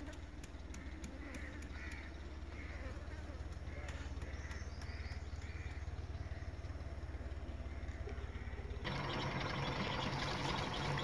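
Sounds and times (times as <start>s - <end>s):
low hum: 0.0s - 11.0s
faint bird chirps: 0.6s - 11.0s.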